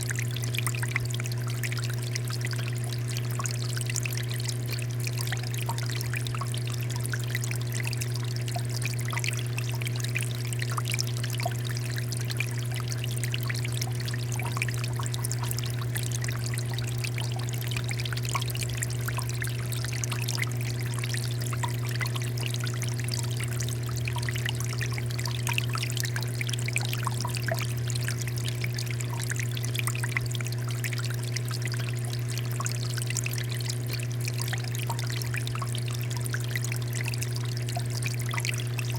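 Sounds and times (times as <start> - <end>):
continuous low hum: 0.0 - 38.9.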